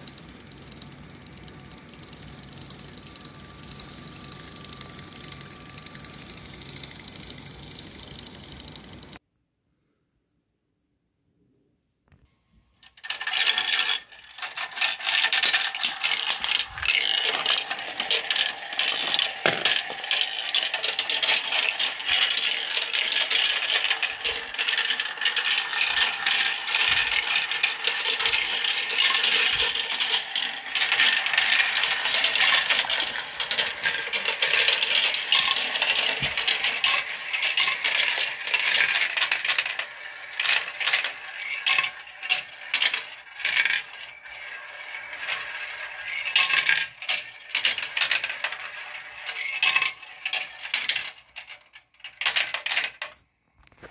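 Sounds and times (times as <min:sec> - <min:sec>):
marbles clattering down plastic track: 0:00.0 - 0:09.2, 0:12.8 - 0:53.9.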